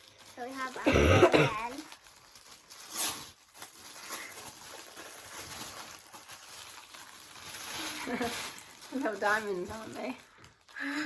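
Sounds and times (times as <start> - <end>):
gift packaging rustling: 0.0 - 11.0.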